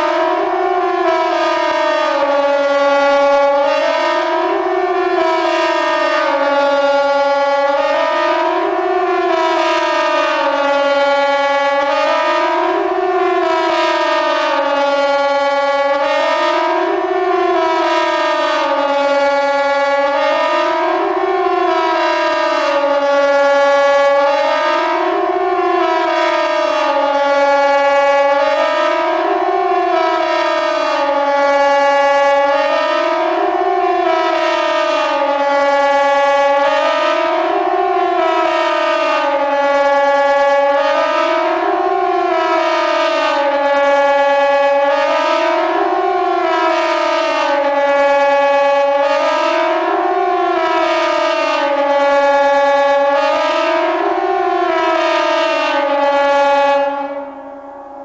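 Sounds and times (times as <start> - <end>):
two-tone siren wailing: 0.0 - 58.0.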